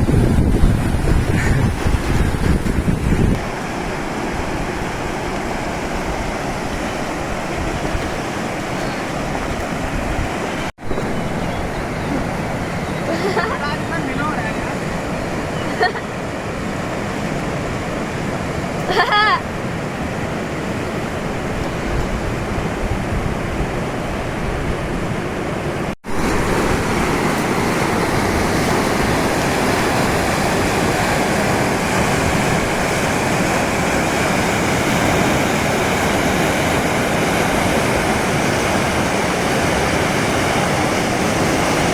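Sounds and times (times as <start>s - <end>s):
rushing river water: 0.0s - 41.9s.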